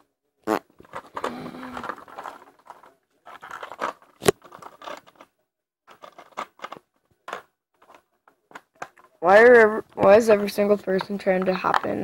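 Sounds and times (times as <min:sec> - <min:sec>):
plastic bricks rattling and clicking: 0:00.8 - 0:12.0.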